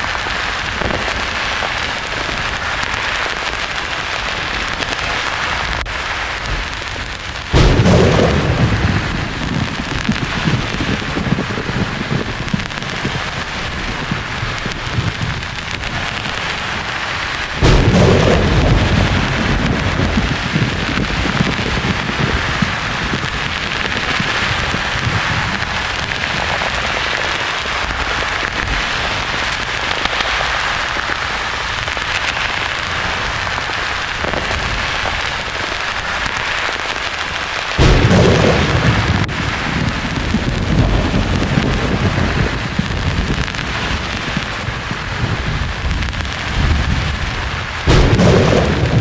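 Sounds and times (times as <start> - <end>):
rain-like white noise hiss: 0.0 - 49.0
thunder rumbling: 0.0 - 49.0.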